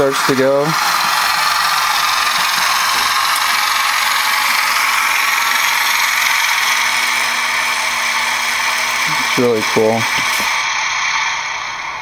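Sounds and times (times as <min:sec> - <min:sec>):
model railcar propeller whirring: 0:00.0 - 0:12.0.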